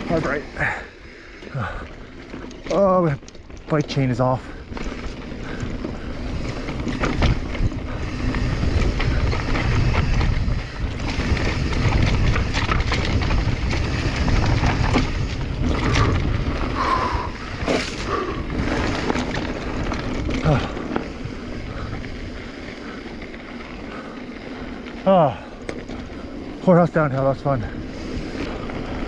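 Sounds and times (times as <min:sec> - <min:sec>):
bike rattling over bumps: 0:00.0 - 0:29.0
wind buffeting microphone: 0:01.4 - 0:29.0.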